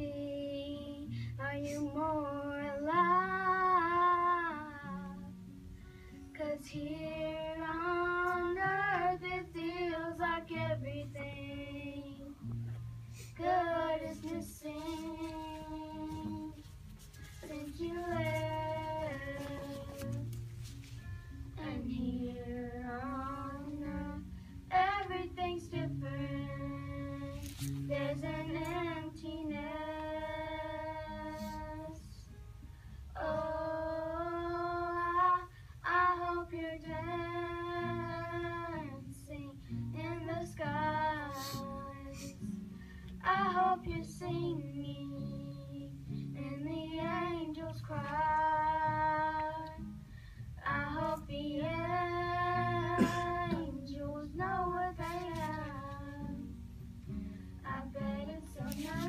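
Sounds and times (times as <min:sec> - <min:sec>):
girls singing: 0:00.0 - 0:05.2, 0:06.3 - 0:12.5, 0:13.4 - 0:16.8, 0:17.4 - 0:20.4, 0:21.5 - 0:32.3, 0:33.2 - 0:42.5, 0:43.2 - 0:49.9, 0:50.6 - 0:56.5, 0:57.6 - 0:59.0
soft instrumental backing: 0:00.0 - 0:59.0.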